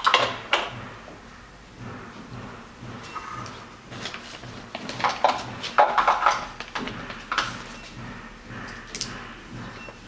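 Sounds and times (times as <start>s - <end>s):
pulsing low hum: 0.0s - 10.0s.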